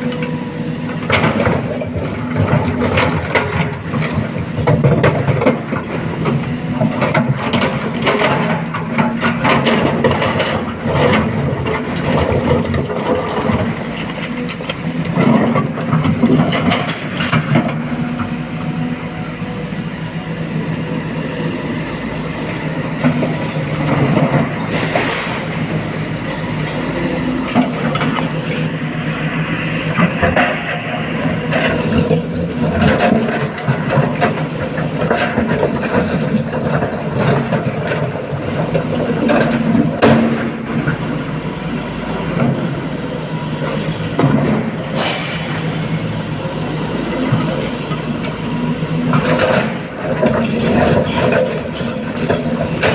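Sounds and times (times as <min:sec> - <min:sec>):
heavy diesel engines running: 0:00.0 - 0:52.9.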